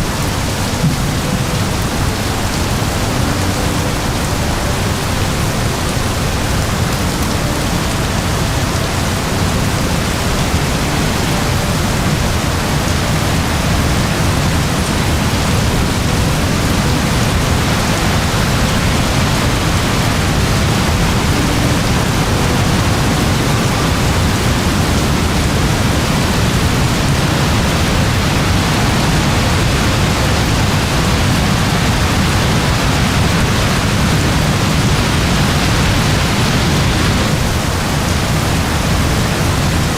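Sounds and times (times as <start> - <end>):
very heavy rain pouring: 0.0 - 39.9.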